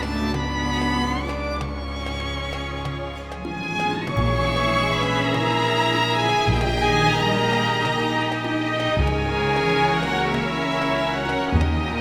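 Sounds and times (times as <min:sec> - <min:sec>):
slow bowed strings music: 0:00.0 - 0:12.0.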